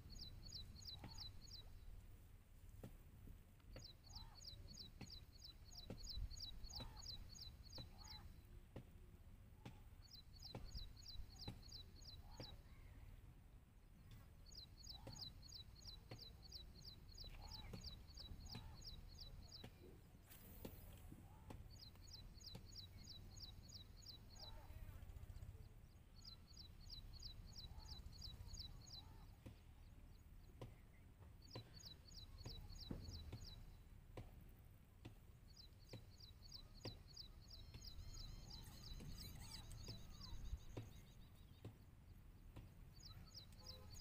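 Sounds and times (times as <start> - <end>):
bird chirping trill: 0.0 - 2.0, 3.8 - 8.4, 10.0 - 13.0, 14.1 - 20.0, 21.7 - 33.8, 35.5 - 44.0
faint lower bird calls: 0.0 - 2.2, 3.6 - 8.8, 9.6 - 34.0, 35.5 - 44.0.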